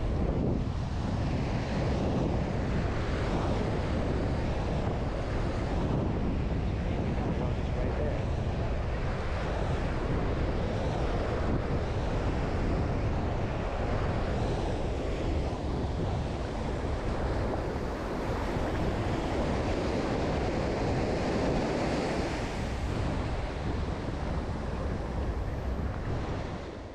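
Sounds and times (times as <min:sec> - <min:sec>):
waves washing on sand: 0:00.0 - 0:26.9
wind buffeting microphone: 0:00.0 - 0:26.9.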